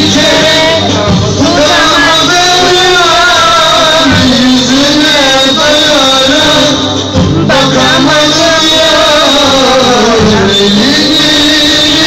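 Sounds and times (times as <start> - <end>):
backing music: 0.0 - 12.0
man singing into microphone: 0.0 - 12.0.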